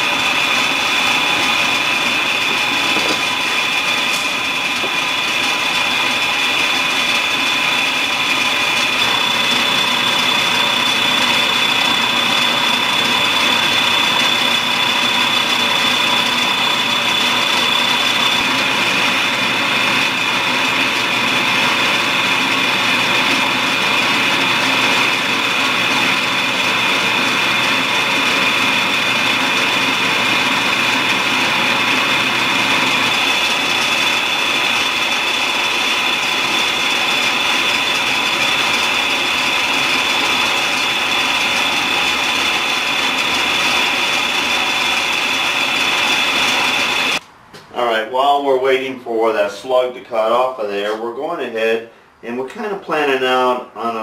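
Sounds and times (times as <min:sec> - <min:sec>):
bandsaw cutting metal bar: 0:00.0 - 0:47.2
high whine: 0:00.0 - 0:50.4.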